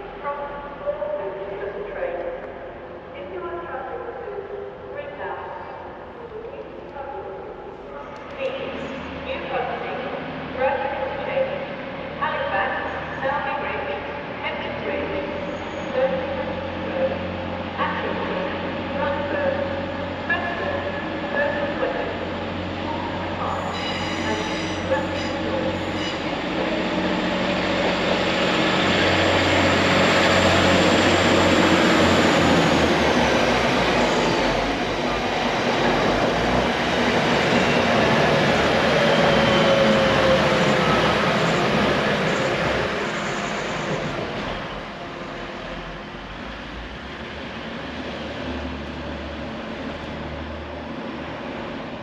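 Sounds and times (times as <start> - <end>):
train running on track: 0.0 - 52.0.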